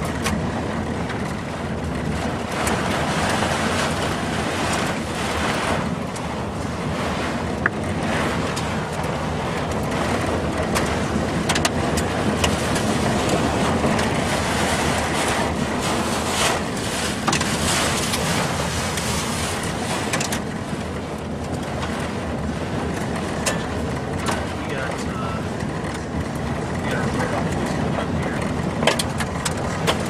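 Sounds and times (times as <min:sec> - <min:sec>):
heavy rain battering a truck: 0:00.0 - 0:30.0
tornado wind: 0:00.0 - 0:30.0.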